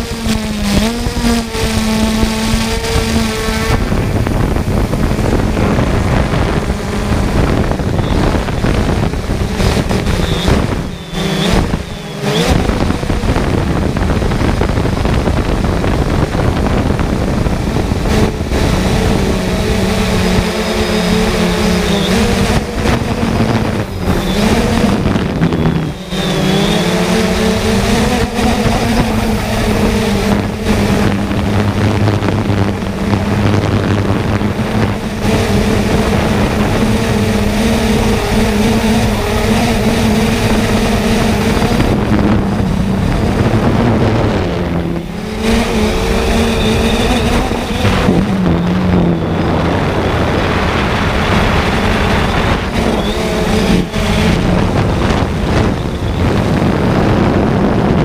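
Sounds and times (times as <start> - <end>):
drone propellers buzzing: 0.0 - 58.0
heavy wind noise: 0.0 - 58.0.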